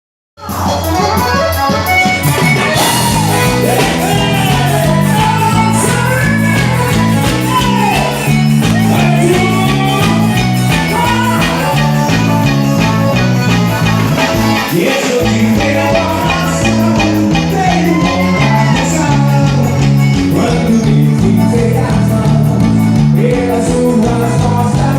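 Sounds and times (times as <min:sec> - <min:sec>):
band music: 0:00.4 - 0:24.9.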